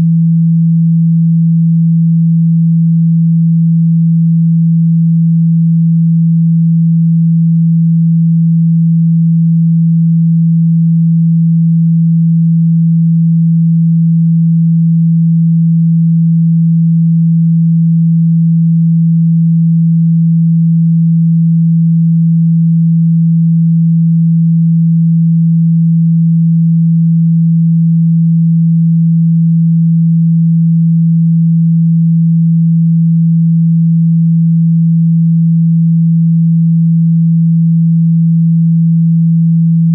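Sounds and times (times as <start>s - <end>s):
low pure sine tone: 0.0s - 39.9s.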